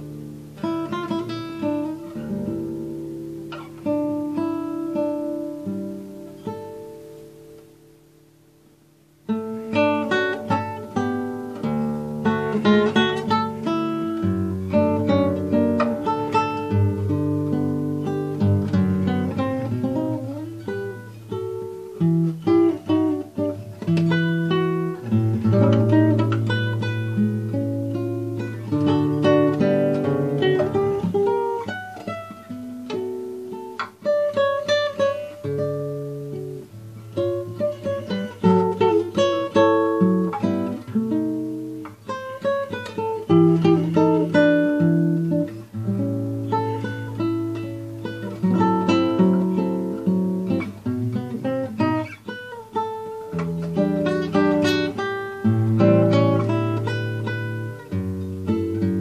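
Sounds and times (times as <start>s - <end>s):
fingerpicked classical guitar: 0.0s - 59.0s.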